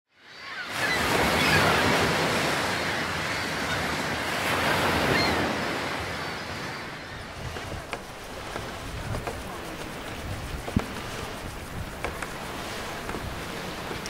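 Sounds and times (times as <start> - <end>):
sea waves washing: 0.7 - 14.0.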